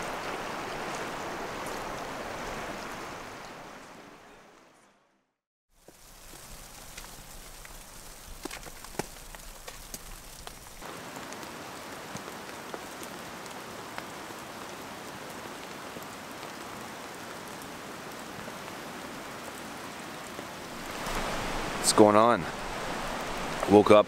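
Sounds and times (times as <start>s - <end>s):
rain hissing: 0.0s - 4.4s, 5.7s - 24.0s.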